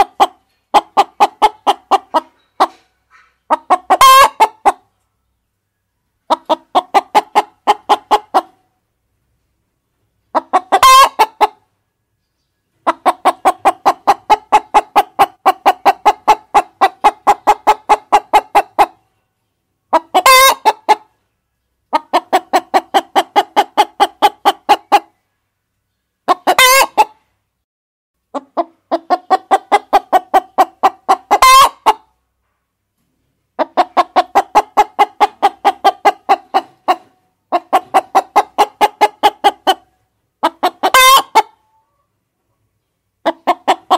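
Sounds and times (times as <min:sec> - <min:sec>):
hens clucking: 0:00.0 - 0:05.0, 0:06.1 - 0:08.7, 0:10.2 - 0:11.7, 0:12.7 - 0:19.1, 0:19.9 - 0:21.2, 0:21.8 - 0:25.2, 0:26.2 - 0:27.3, 0:28.3 - 0:32.2, 0:33.3 - 0:42.6, 0:43.2 - 0:43.9.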